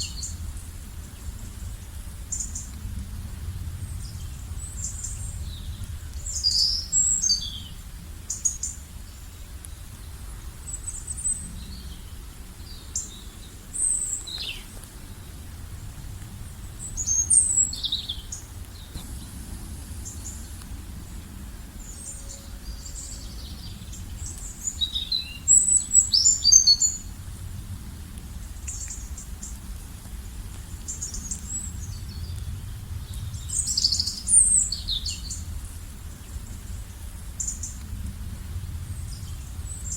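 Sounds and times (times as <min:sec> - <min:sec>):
steady low rumble: 0:00.0 - 0:39.9
small birds chirping: 0:03.8 - 0:27.2, 0:28.4 - 0:38.0.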